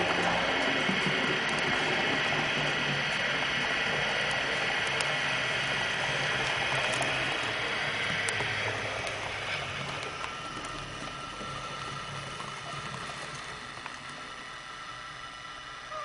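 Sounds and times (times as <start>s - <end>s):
model train motors whirring: 0.0s - 16.0s
wheels rolling on rails: 0.0s - 16.0s.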